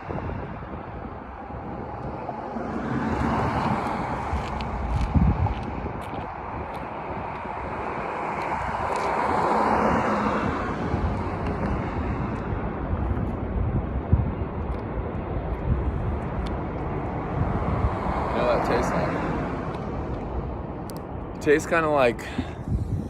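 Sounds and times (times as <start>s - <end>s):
traffic rumble: 0.0s - 23.0s
vehicle passing: 1.3s - 14.4s, 15.0s - 20.8s.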